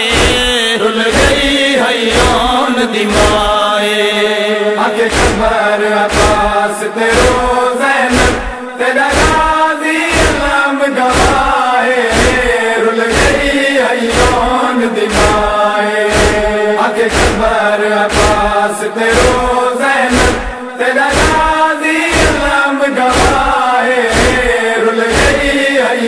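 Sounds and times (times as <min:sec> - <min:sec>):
steady thumping beat: 0:00.0 - 0:03.7, 0:05.0 - 0:25.7
man chanting a lament: 0:00.0 - 0:26.0.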